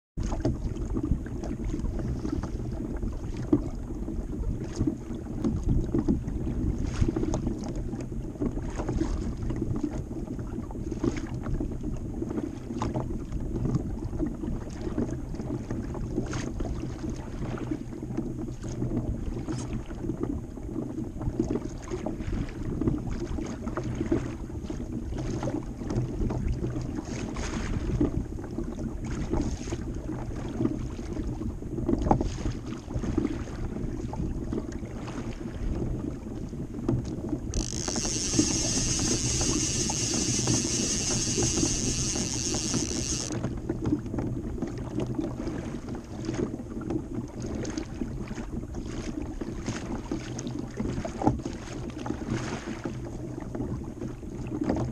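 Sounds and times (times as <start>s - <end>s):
water lapping against kayak: 0.2s - 54.9s.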